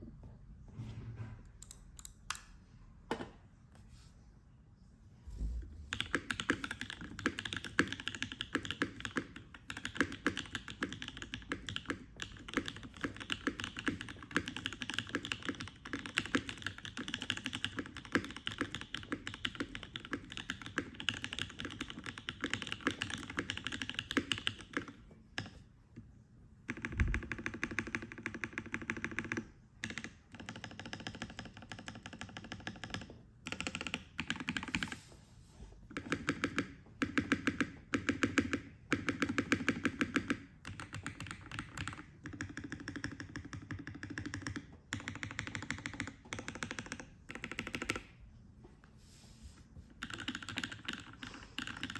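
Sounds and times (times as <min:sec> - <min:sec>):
mechanical keyboard typing: 0:05.9 - 0:25.6, 0:26.6 - 0:35.0, 0:35.9 - 0:48.2, 0:49.9 - 0:51.9.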